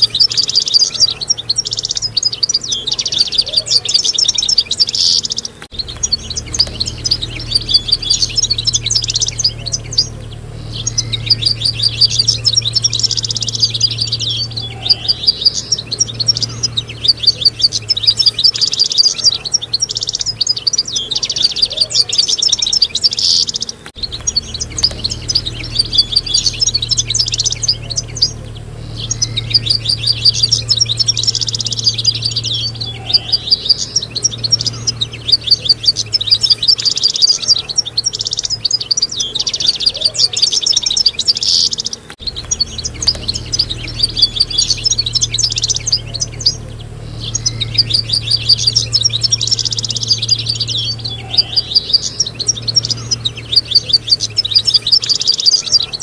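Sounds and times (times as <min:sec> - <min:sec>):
finches twittering and trilling: 0:00.0 - 0:56.0
low steady hum: 0:00.0 - 0:56.0.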